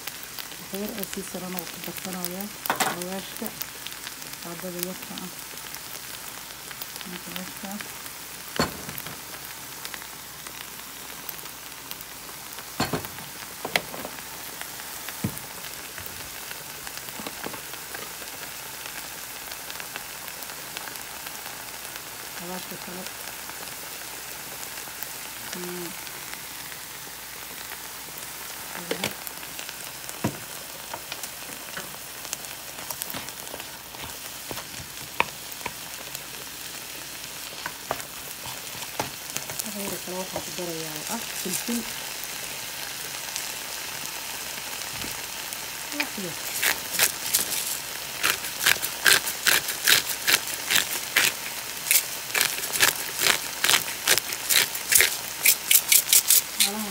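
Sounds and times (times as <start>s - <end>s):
meat and onion sizzling in a pan: 0.0s - 56.9s.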